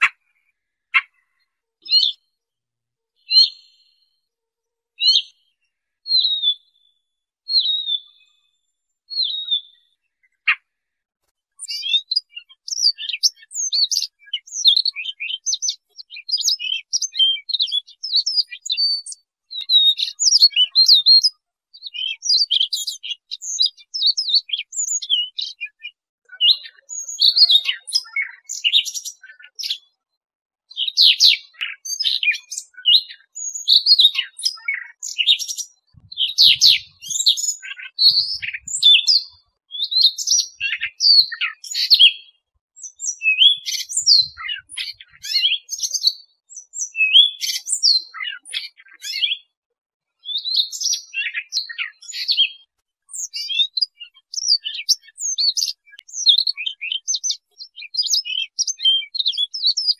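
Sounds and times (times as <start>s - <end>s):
bird warbling song: 0.0s - 2.2s, 5.0s - 10.7s, 11.6s - 29.9s, 30.7s - 49.5s, 50.2s - 59.9s.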